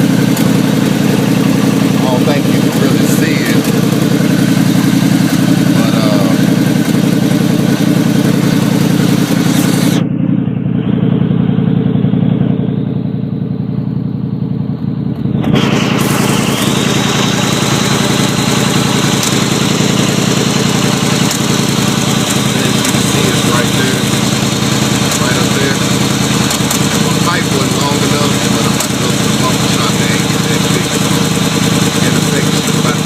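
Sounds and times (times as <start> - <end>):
car engine running loud: 0.0 - 33.0.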